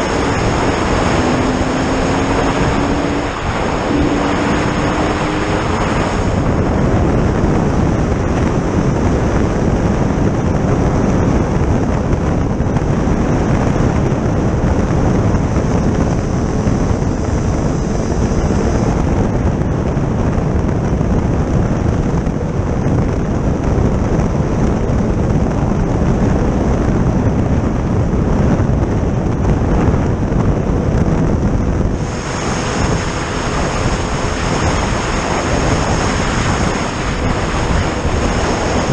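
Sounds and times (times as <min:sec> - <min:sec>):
vehicle running steadily: 0:00.0 - 0:38.9
wind buffeting microphone: 0:00.0 - 0:38.9.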